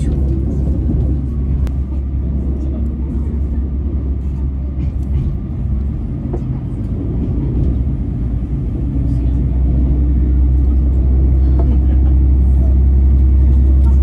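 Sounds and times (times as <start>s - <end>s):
diesel railcar rumble from inside: 0.0s - 14.0s.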